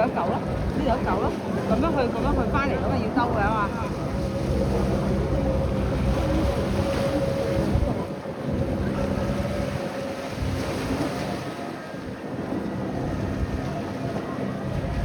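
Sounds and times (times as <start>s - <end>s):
boat engine drone: 0.0s - 15.0s
wind buffeting microphone: 0.0s - 15.0s.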